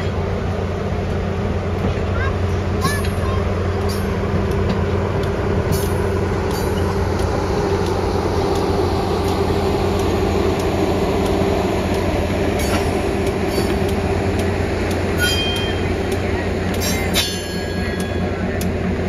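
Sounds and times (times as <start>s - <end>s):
train rolling along track: 0.0s - 19.0s.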